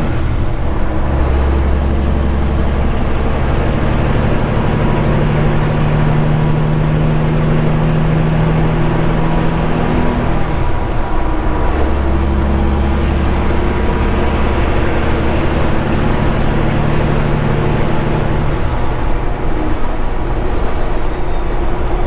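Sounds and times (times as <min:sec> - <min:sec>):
truck diesel engine under load: 0:00.0 - 0:22.0.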